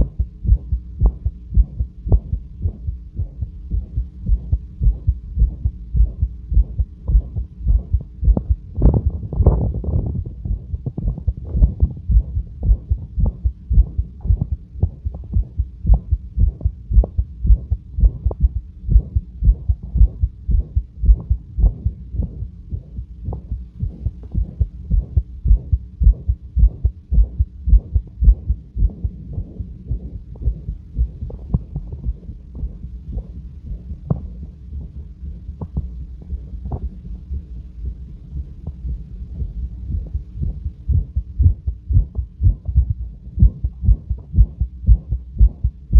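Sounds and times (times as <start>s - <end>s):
harsh whooshing heart murmur: 0.0s - 45.9s
heartbeat through stethoscope: 0.0s - 45.9s.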